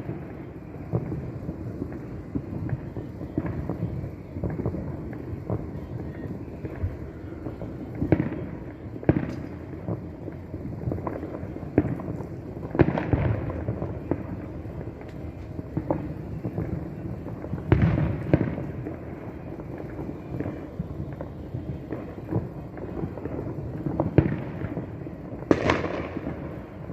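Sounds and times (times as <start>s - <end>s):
distant fireworks booming: 0.0s - 26.9s
fireworks crackle: 0.0s - 26.9s.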